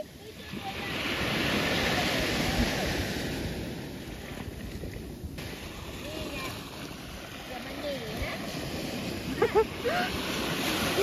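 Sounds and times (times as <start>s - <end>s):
surf wave washing up shore: 0.0s - 11.0s.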